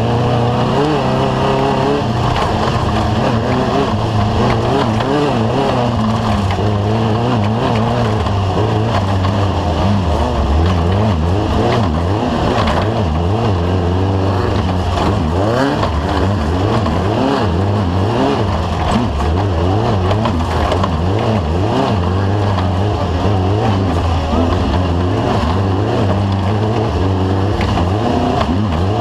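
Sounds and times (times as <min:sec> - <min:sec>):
race vehicle engine revving: 0:00.0 - 0:29.0.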